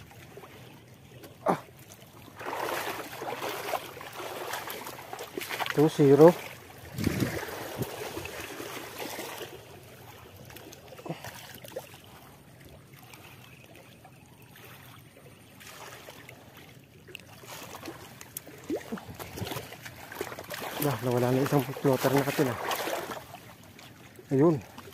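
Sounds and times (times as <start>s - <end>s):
lake waves lapping against rocks: 0.0s - 24.9s.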